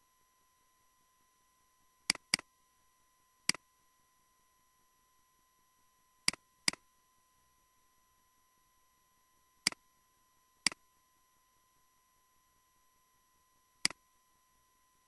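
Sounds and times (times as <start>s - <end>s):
faint electrical tone: 0.0s - 15.0s.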